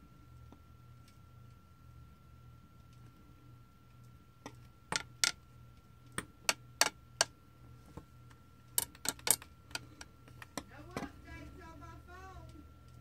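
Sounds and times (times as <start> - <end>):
faint high-pitched hum: 0.0 - 13.0.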